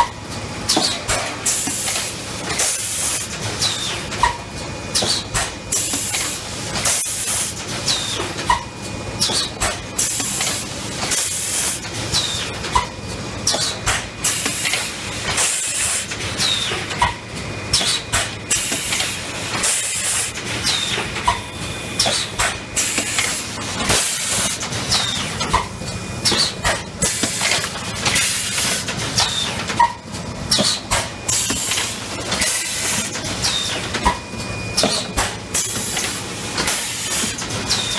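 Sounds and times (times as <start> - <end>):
machine clatter: 0.0 - 37.9.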